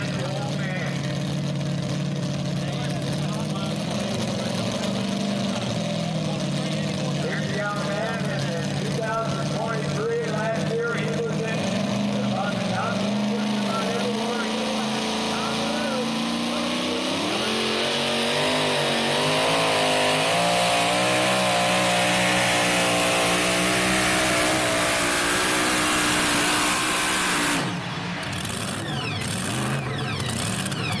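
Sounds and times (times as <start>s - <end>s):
truck engine at full throttle: 0.0s - 31.0s.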